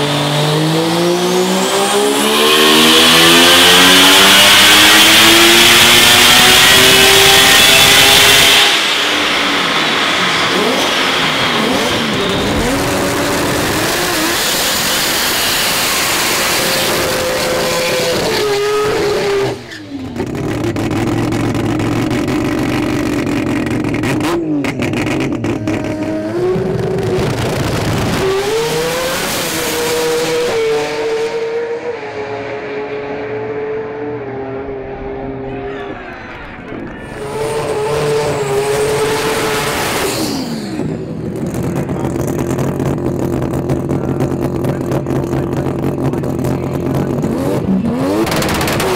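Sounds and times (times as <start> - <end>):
engine running on dyno: 0.0 - 35.4, 37.0 - 48.9
drag car accelerating: 0.0 - 48.9.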